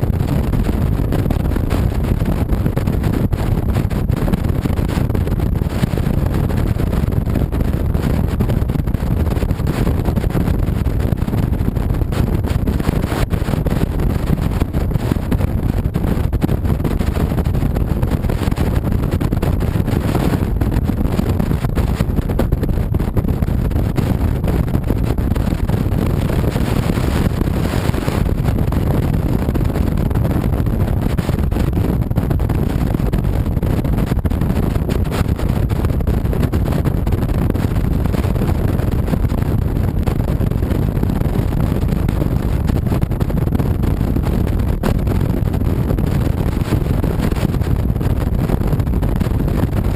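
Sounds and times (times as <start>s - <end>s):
wind rush over microphone: 0.0s - 49.9s.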